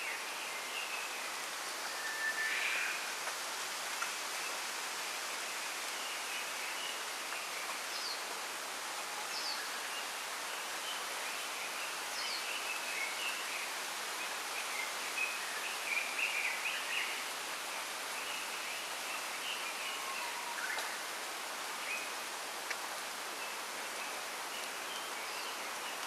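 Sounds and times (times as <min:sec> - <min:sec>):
bamboo leaves rustling in wind: 0:00.0 - 0:26.0.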